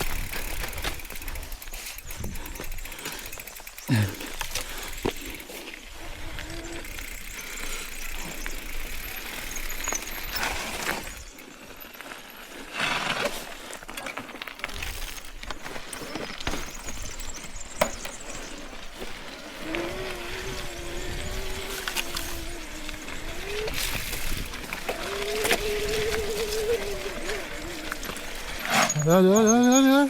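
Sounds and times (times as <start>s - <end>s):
bike rattling and knocking: 0.0s - 5.6s, 6.5s - 29.9s.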